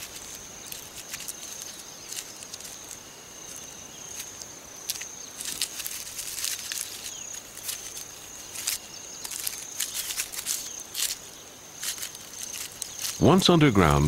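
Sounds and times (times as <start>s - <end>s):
scratching on gritty soil: 0.0s - 14.0s.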